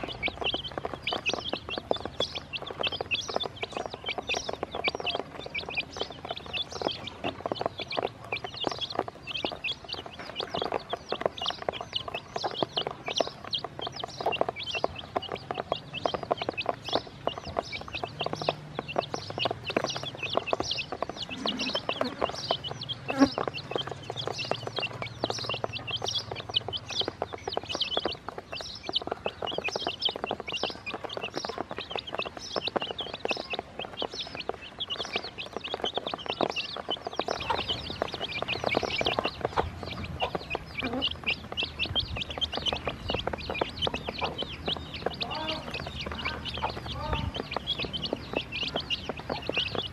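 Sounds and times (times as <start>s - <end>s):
beaks pecking plastic basin: 0.0s - 49.9s
chicks peeping: 0.0s - 49.9s.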